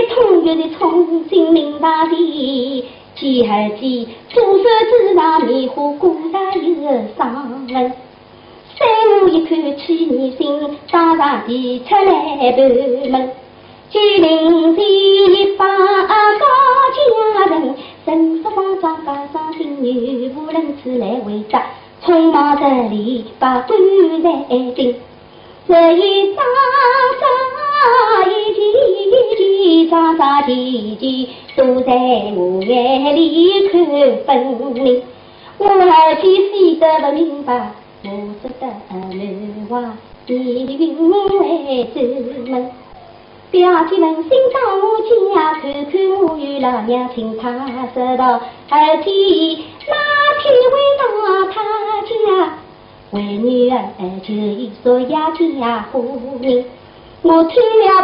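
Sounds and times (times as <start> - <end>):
woman singing opera: 0.0 - 8.0, 8.8 - 25.0, 25.7 - 58.0.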